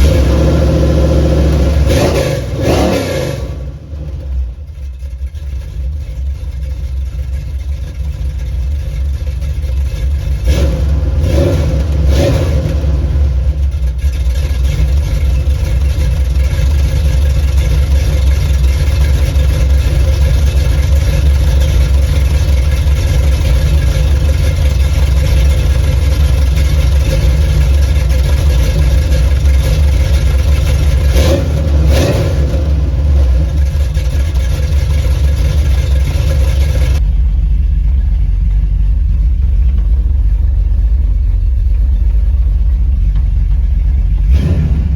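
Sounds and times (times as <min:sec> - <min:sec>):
deep loud engine rumble: 0:00.0 - 0:44.9.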